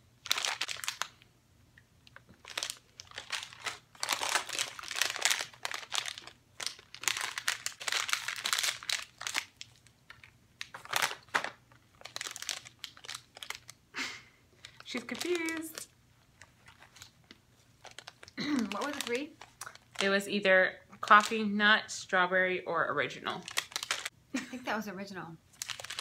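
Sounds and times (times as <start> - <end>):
plastic bag crinkling: 0.2 - 1.2, 2.1 - 13.8, 14.6 - 21.5, 23.3 - 24.1, 25.5 - 26.0.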